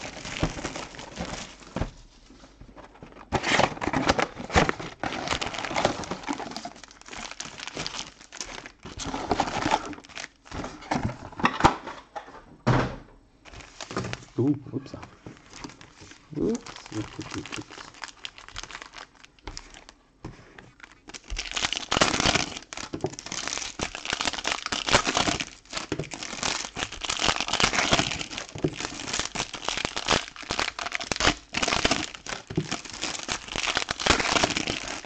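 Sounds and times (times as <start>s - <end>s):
foil wrappers crinkling and tearing: 0.0s - 2.0s, 3.3s - 11.3s, 13.5s - 14.4s, 15.2s - 35.0s.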